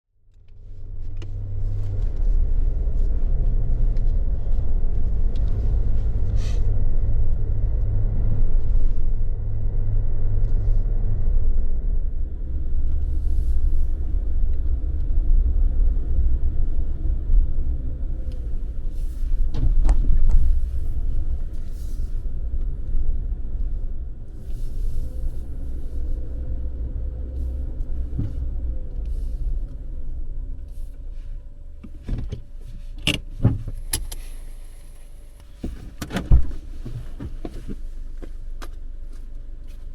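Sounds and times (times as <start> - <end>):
road rumble: 0.1 - 39.9
car engine running: 0.3 - 39.9.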